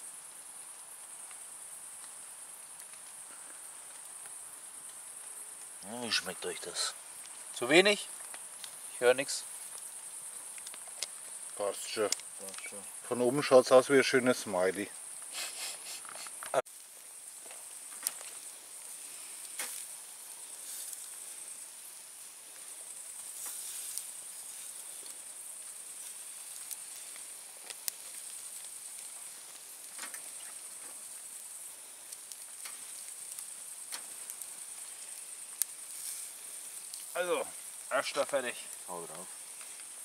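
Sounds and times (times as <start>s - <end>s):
meat sizzling on grill: 0.0s - 40.0s
wood fire crackling: 0.0s - 40.0s.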